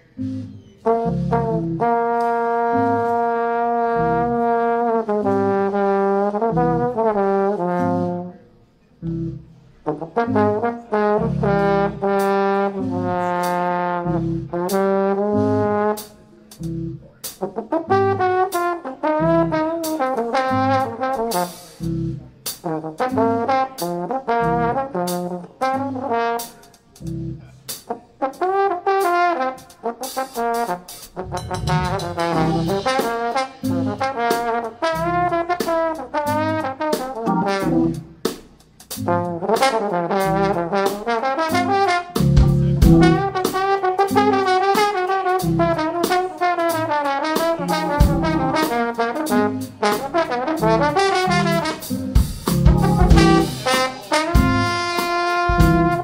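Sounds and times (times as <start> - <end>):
jazz drums and bass: 0.0 - 8.3, 9.0 - 56.0
trombone playing fast phrases: 0.8 - 8.4, 9.9 - 38.2, 38.9 - 56.0.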